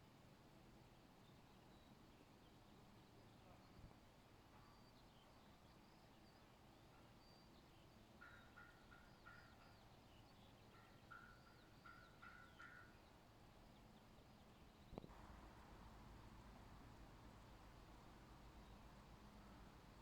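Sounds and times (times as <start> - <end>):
faint birdsong chirps: 0.0 - 20.0.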